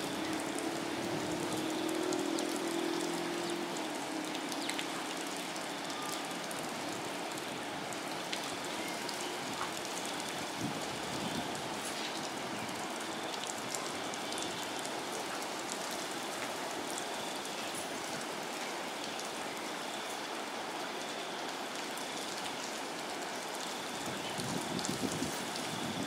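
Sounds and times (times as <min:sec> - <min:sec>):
rain falling on water: 0:00.0 - 0:26.0.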